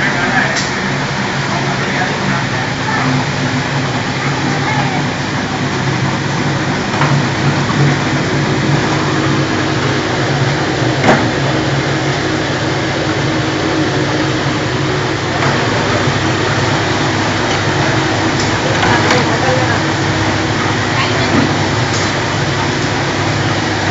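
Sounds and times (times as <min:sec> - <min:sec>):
machinery humming: 0:00.0 - 0:23.9.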